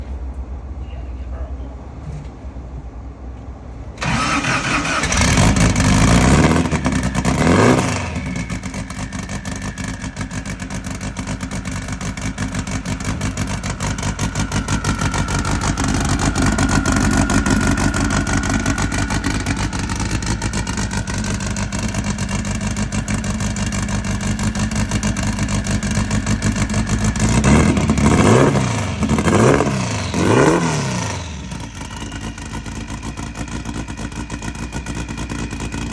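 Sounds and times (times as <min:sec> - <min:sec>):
engine starting and revving: 0:04.0 - 0:11.6, 0:12.2 - 0:35.9.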